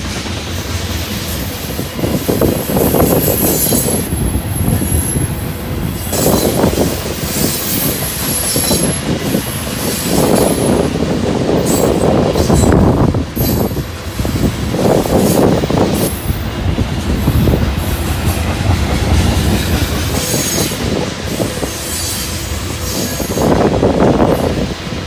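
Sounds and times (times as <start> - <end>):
freight train cars rolling: 0.0 - 25.0
high wheel squeal: 1.4 - 16.5, 19.1 - 24.6.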